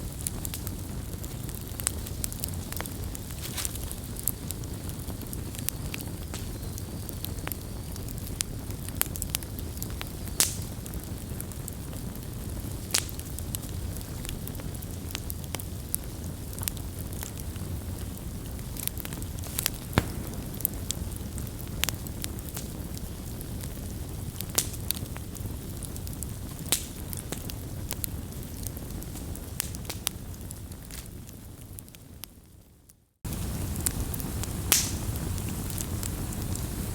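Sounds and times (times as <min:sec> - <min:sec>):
fire crackles and pops: 0:00.0 - 0:36.9
low rumble of flames: 0:00.0 - 0:36.9.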